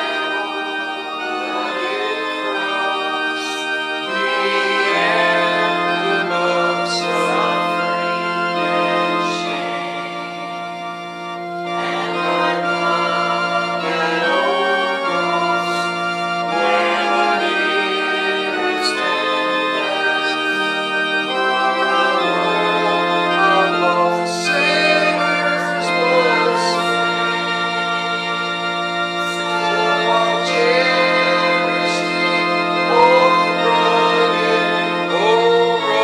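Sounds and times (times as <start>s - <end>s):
organ playing a hymn: 0.0s - 36.0s.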